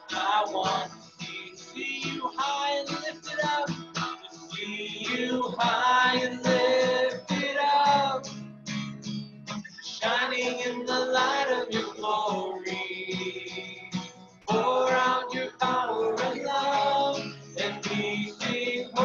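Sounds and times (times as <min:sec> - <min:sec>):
man singing: 0:00.0 - 0:03.8, 0:04.5 - 0:08.4, 0:09.8 - 0:19.0
acoustic guitar strumming: 0:00.0 - 0:19.0.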